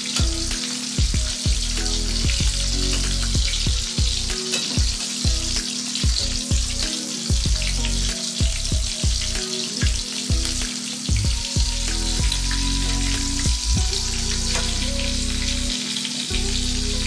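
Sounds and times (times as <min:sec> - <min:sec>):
background music with bass beat: 0:00.0 - 0:17.0
fish sizzling in hot oil: 0:00.0 - 0:17.0.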